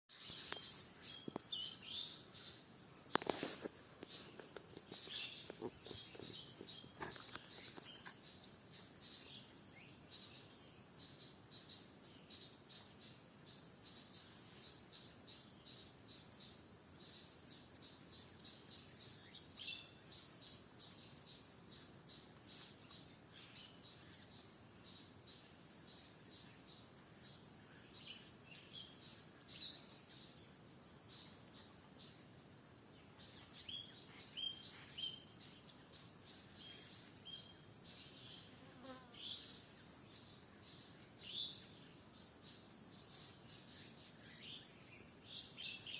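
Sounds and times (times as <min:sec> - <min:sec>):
wild birds chirping: 0:00.1 - 0:45.9.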